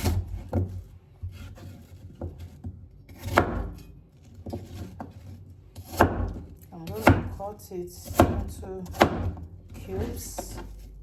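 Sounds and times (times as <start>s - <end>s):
knife cutting an apple: 0.0s - 7.4s, 8.0s - 11.0s.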